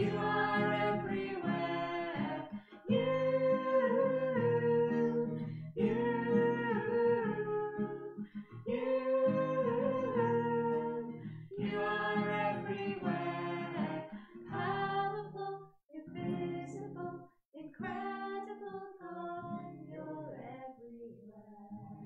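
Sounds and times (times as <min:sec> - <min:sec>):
acoustic guitar: 0:00.0 - 0:22.0
person singing: 0:00.0 - 0:22.0.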